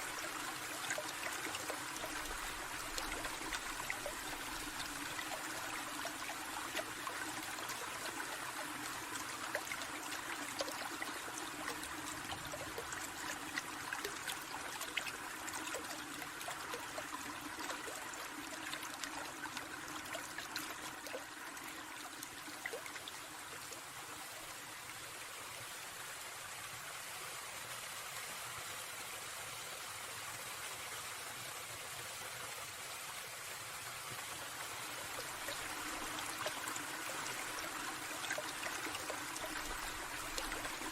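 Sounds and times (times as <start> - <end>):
water splashes and drips: 0.0 - 26.4, 31.8 - 40.9
small stream babbling: 0.0 - 40.9.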